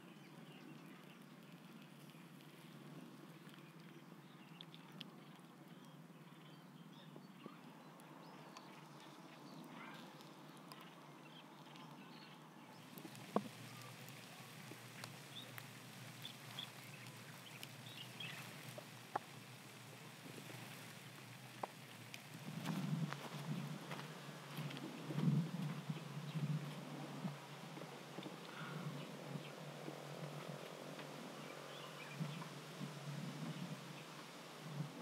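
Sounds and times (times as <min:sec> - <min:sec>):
campfire embers crackling: 0:00.1 - 0:06.1, 0:10.0 - 0:11.9, 0:12.8 - 0:35.0.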